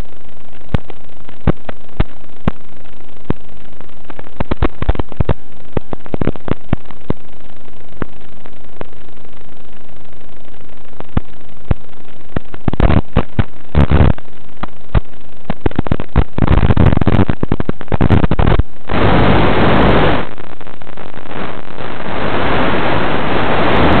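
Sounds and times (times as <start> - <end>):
radio static crackling and hiss: 0.0 - 24.0.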